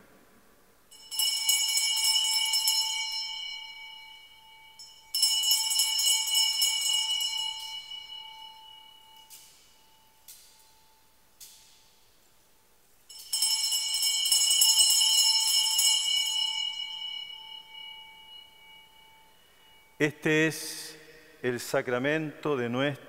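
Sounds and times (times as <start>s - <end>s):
altar bells ringing: 0.9s - 22.7s.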